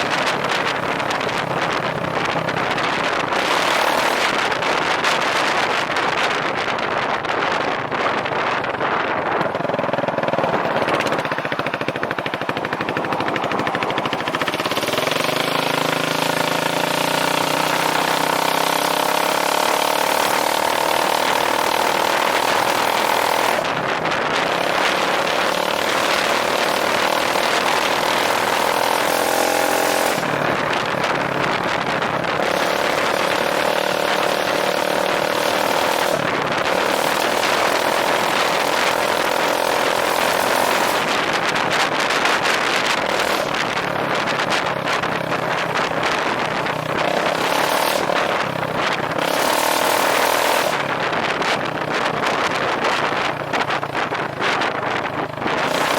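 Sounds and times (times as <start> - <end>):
scooter engine revving: 0.0 - 55.9.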